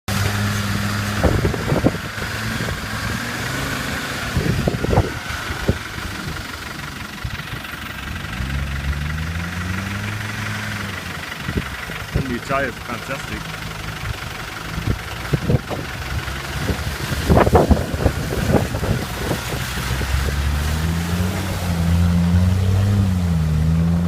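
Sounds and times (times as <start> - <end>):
diesel engine running: 0.1 - 24.0.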